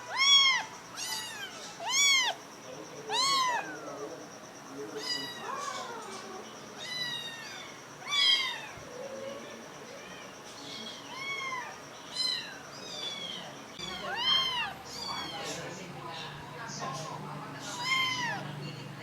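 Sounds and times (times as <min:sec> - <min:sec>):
kittens meowing: 0:00.0 - 0:04.1, 0:04.9 - 0:15.8, 0:17.6 - 0:18.6.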